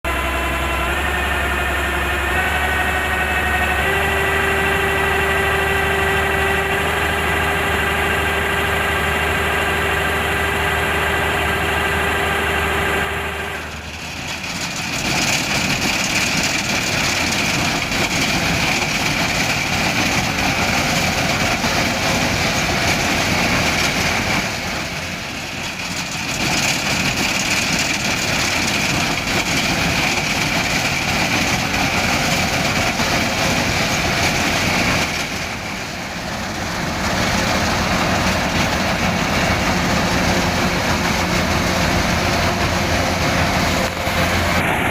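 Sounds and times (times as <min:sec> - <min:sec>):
combine harvester engine drone: 0:00.0 - 0:44.9
rough machine noise with whine: 0:00.1 - 0:44.9.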